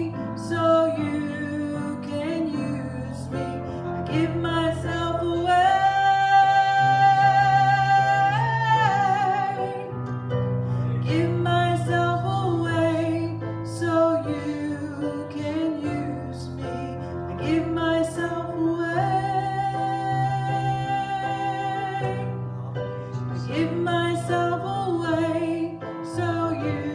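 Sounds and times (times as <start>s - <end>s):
slow melody with vibrato: 0.0s - 26.9s.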